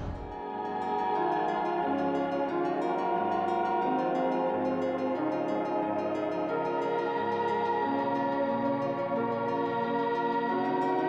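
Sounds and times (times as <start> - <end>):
slow ambient music: 0.0 - 11.0.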